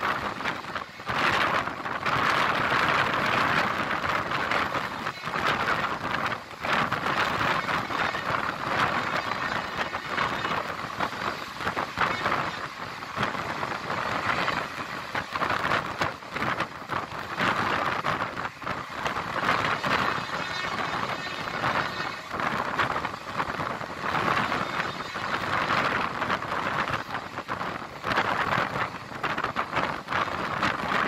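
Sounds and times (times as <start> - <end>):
train rushing with rattling clatter: 0.0 - 31.0.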